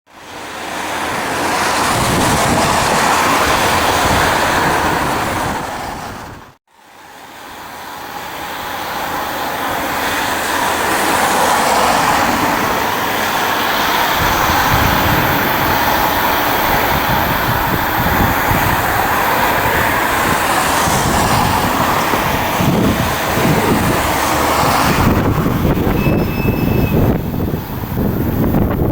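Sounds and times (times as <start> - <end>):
deep train rumble: 0.1 - 28.9
freight train running past: 0.1 - 28.9.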